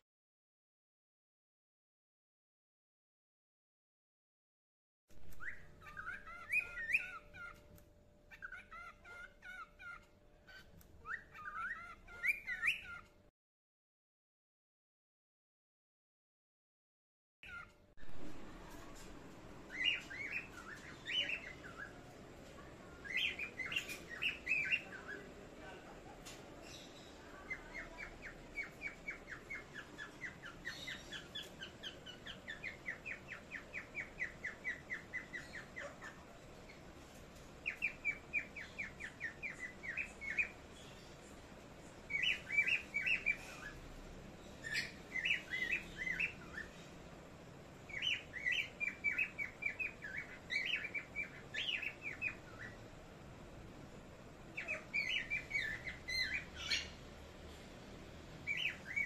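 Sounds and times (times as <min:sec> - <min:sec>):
parrots chirping: 0:05.2 - 0:13.2, 0:17.4 - 0:59.0.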